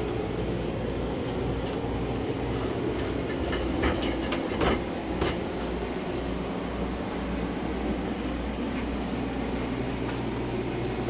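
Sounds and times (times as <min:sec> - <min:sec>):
low machinery rumble: 0:00.0 - 0:11.0.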